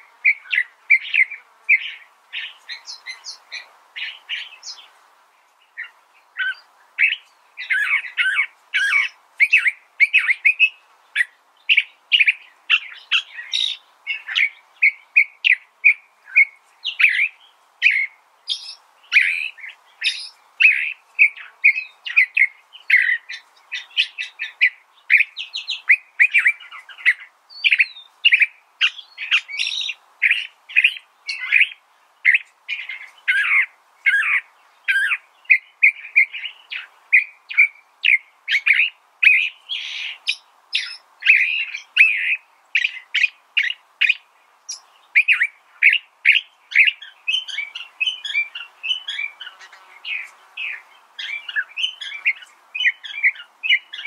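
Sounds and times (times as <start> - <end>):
bird singing chirping phrases: 0.0 - 54.0
faint background hiss: 0.0 - 54.0.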